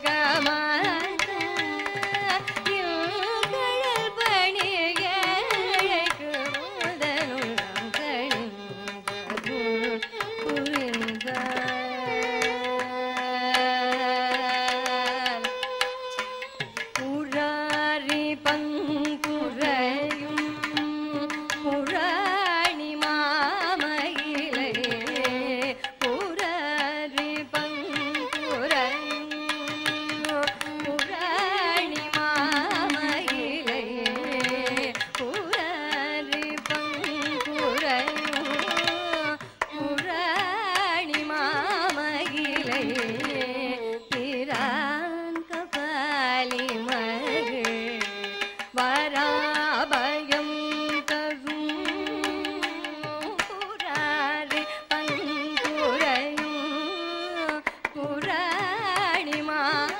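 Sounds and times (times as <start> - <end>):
woman singing: 0.0 - 59.9.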